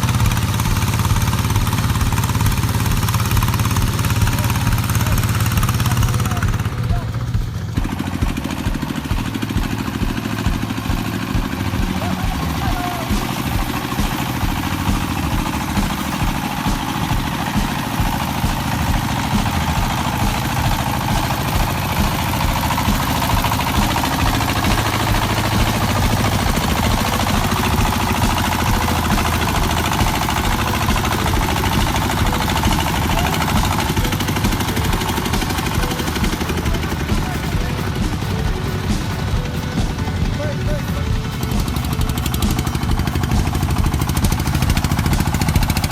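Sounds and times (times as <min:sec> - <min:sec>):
farm vehicle engine running: 0:00.0 - 0:45.9.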